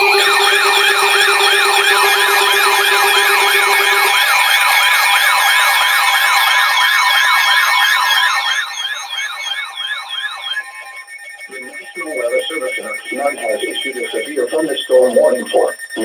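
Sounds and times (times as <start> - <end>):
electronic warbling alert siren: 0.0 - 16.0
steady alert tones: 0.0 - 16.0.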